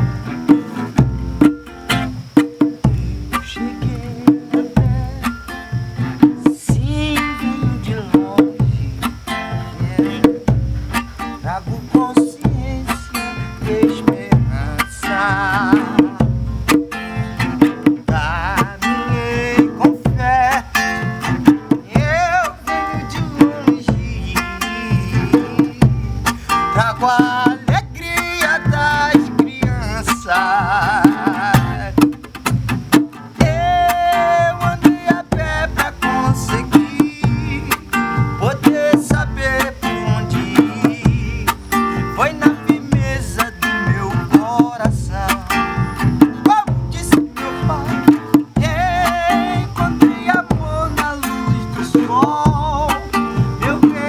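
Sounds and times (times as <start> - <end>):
acoustic guitar: 0.0 - 54.0
hand drums: 0.0 - 54.0.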